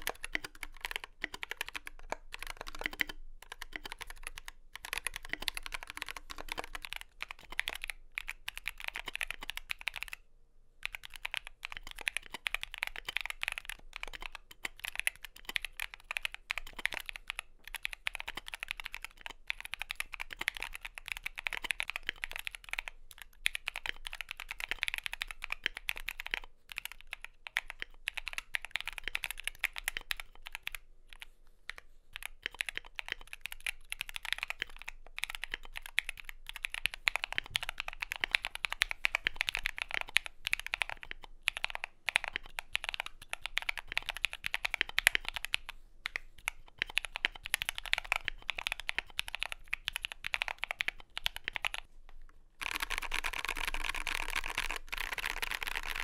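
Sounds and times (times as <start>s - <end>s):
typing on mechanical keyboard: 0.0s - 10.2s, 10.8s - 51.9s, 52.6s - 56.0s.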